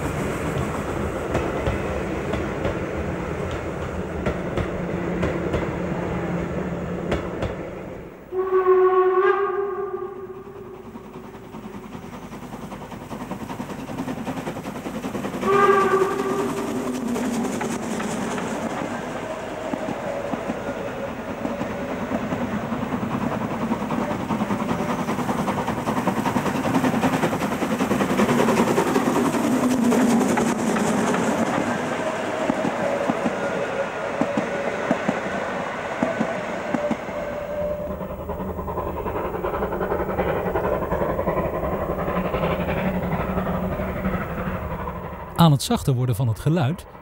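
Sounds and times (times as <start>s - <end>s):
steam locomotive exhaust beating: 0.0s - 6.2s, 7.0s - 45.8s
coaches rumbling on rails: 0.0s - 47.0s.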